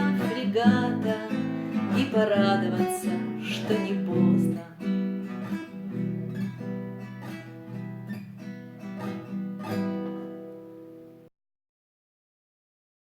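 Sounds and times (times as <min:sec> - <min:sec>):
acoustic guitar strumming chords: 0:00.0 - 0:11.3.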